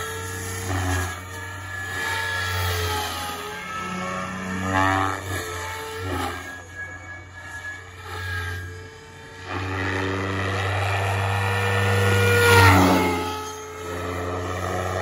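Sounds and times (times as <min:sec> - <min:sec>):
helicopter drive whine: 0:00.0 - 0:15.0
model helicopter rotor thrum: 0:00.0 - 0:15.0.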